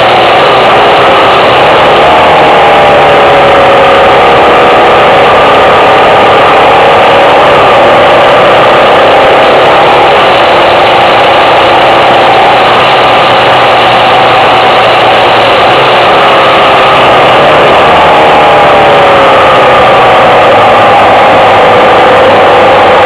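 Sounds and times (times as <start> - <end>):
loud rushing noise: 0.0 - 23.0
motorcycle engine running: 0.0 - 23.0.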